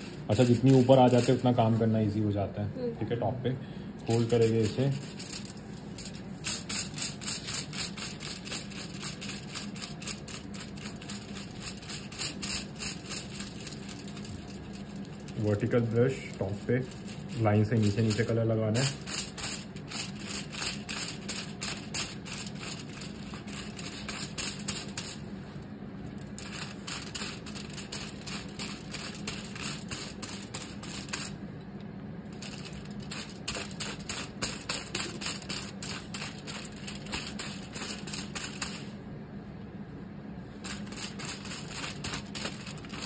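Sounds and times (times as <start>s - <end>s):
brush tapping on foil: 0.0s - 1.6s, 4.1s - 25.2s, 26.3s - 31.4s, 32.4s - 38.9s, 40.6s - 43.0s
steady low hum: 0.0s - 43.0s.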